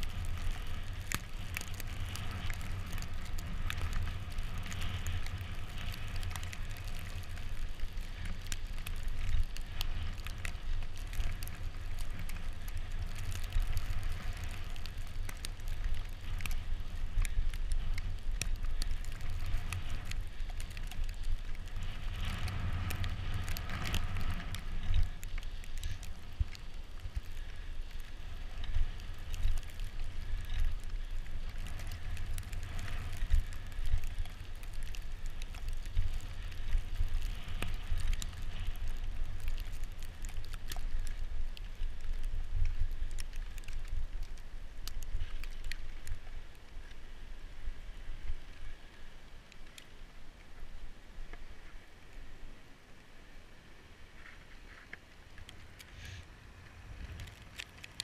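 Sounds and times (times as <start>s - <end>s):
bicycle tyres rolling on snow: 0.0s - 58.0s
wind rumble on microphone: 0.0s - 58.0s.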